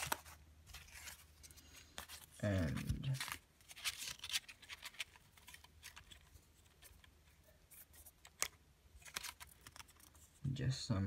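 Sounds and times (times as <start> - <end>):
paper tags rustling: 0.0 - 10.4.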